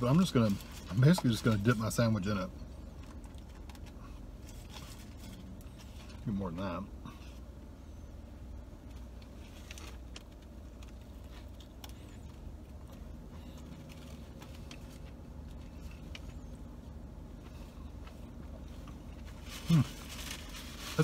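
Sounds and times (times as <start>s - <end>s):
low car cabin hum: 0.0s - 21.0s.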